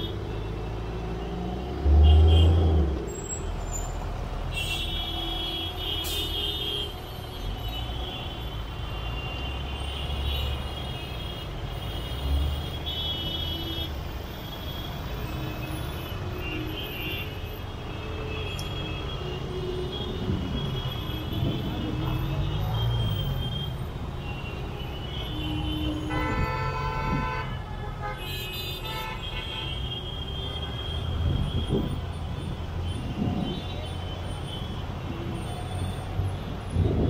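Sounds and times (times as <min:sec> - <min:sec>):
traffic rumble of engines and tyres: 0:00.0 - 0:37.0
vehicle horns: 0:01.9 - 0:03.0, 0:04.5 - 0:15.0, 0:15.6 - 0:36.1.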